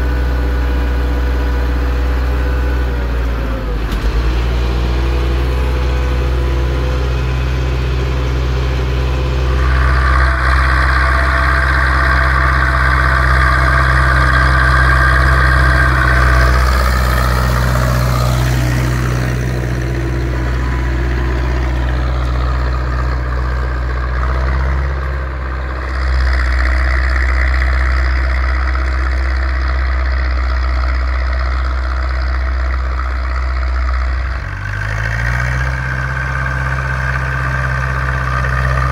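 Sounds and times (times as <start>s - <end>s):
high whine: 0.0s - 38.9s
tractor diesel engine under load: 0.0s - 38.9s.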